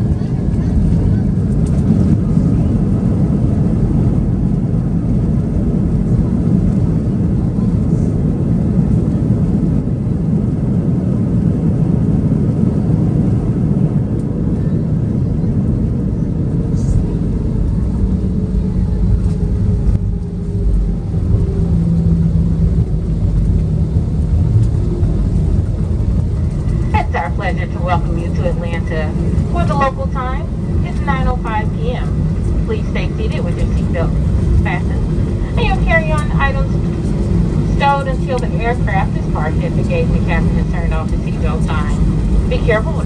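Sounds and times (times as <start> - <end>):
airplane engines rumbling in cabin: 0.0 - 43.0
engine hum: 0.0 - 43.0.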